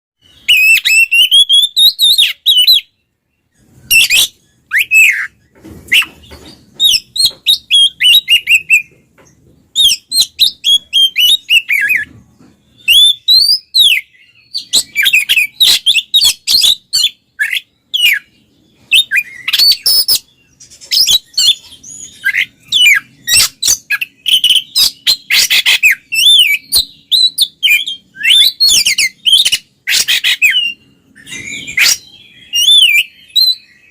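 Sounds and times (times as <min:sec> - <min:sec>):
magpie-robin singing: 0:00.2 - 0:33.9.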